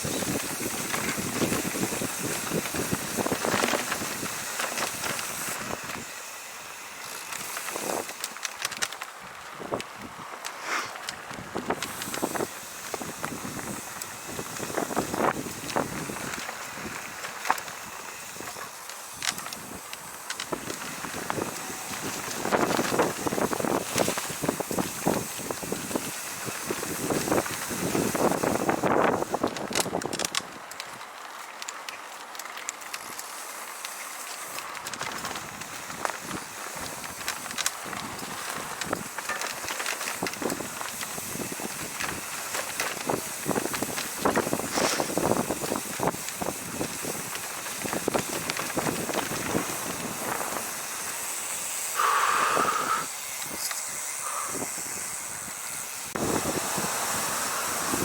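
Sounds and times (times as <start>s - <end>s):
wind buffeting microphone: 0.0s - 6.2s, 11.2s - 30.7s, 34.7s - 58.0s
bike rattling: 0.0s - 58.0s.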